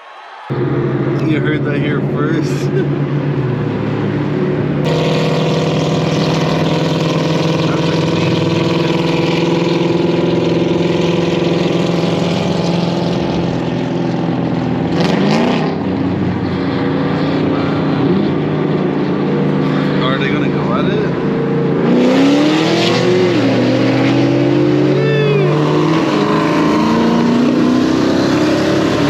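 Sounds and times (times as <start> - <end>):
car engine running: 0.5 - 29.0
road and wind noise: 0.5 - 29.0.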